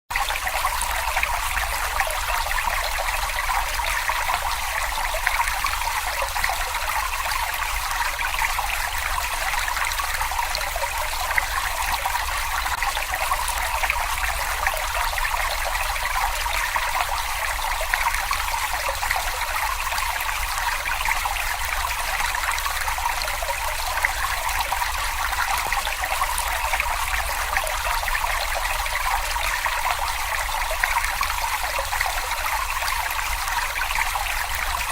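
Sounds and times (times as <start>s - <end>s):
brook babbling over stones: 0.1s - 34.9s.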